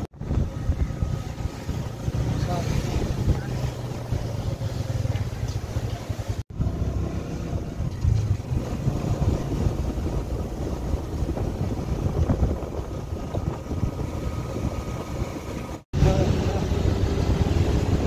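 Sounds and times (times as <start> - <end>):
vehicle engine running: 0.0 - 18.0
wind rushing over microphone: 0.0 - 18.0.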